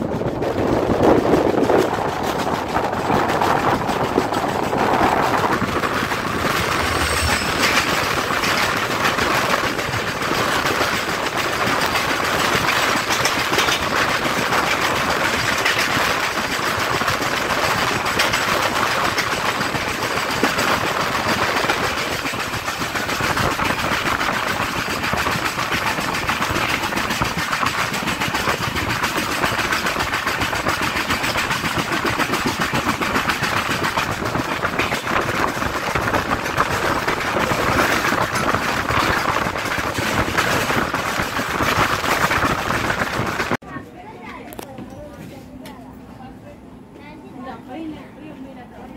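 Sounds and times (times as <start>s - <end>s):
passing train rushing rattle: 0.0s - 43.6s
train wheel clatter: 0.0s - 43.7s
wind from moving train: 0.0s - 48.9s.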